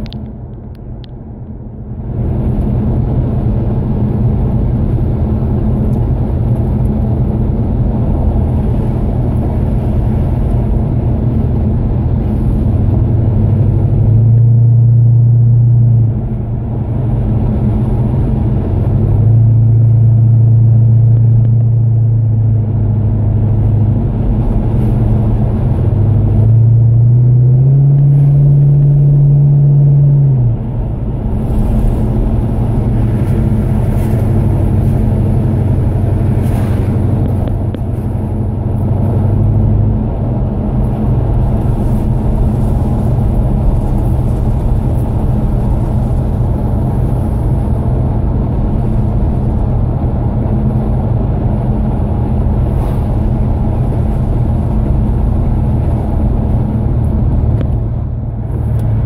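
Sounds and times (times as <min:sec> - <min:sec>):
car engine and exhaust: 0:00.0 - 0:59.0
road noise: 0:00.0 - 0:59.0.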